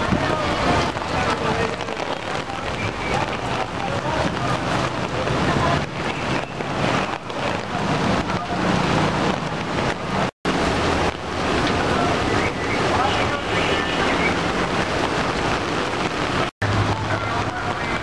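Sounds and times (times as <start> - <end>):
floodwater rushing: 0.0 - 18.0
wind noise on microphone: 0.0 - 18.0.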